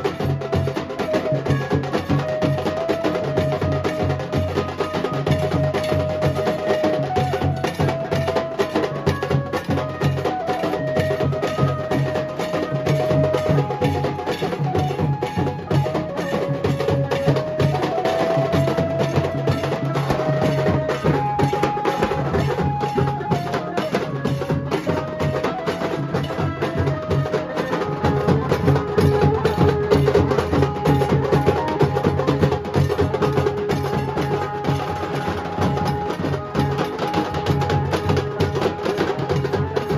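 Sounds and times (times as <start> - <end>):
dhol drums beating fast: 0.0 - 39.9
held stepping melody notes: 0.0 - 39.9.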